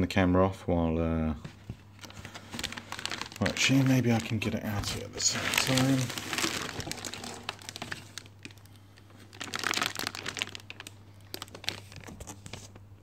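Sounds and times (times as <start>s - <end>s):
plastic packaging crinkling: 1.9s - 12.8s.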